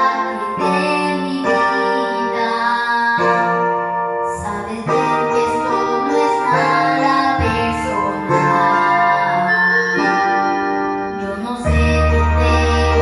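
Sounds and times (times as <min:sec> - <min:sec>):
boy singing into a microphone: 0:00.0 - 0:03.6, 0:04.3 - 0:10.3, 0:11.2 - 0:13.0
piano backing track: 0:00.0 - 0:13.0.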